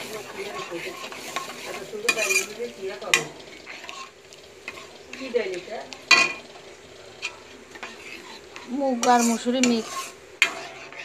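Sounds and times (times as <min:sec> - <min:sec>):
spatula scraping a steel pan: 0:00.0 - 0:05.4, 0:07.2 - 0:11.0
lentils sizzling in a pan: 0:00.0 - 0:11.0.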